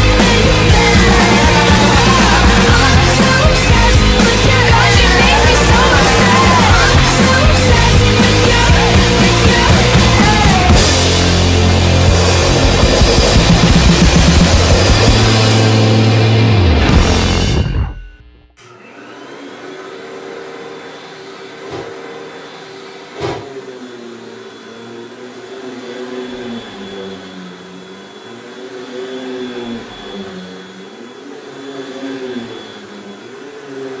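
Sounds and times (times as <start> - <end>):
vacuum cleaner motor hum: 0.0 - 17.8, 18.6 - 34.0.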